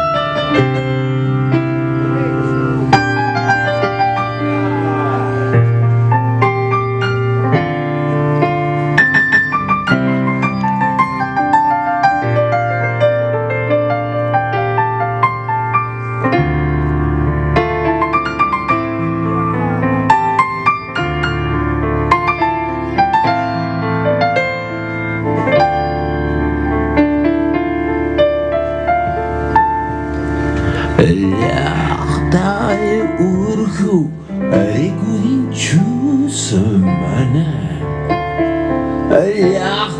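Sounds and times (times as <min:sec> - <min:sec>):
electric piano chords: 0:00.0 - 0:39.9.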